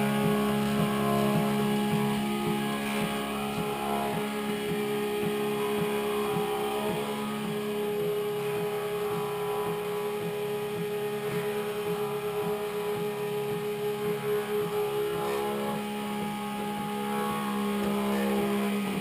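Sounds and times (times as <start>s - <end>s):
faint regular pulse: 0.0s - 19.0s
stepper motors whining: 0.0s - 19.0s.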